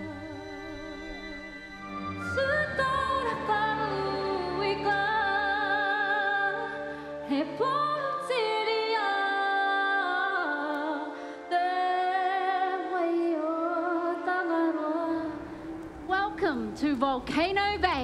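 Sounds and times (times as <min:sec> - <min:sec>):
woman singing with vibrato: 0:00.0 - 0:18.0.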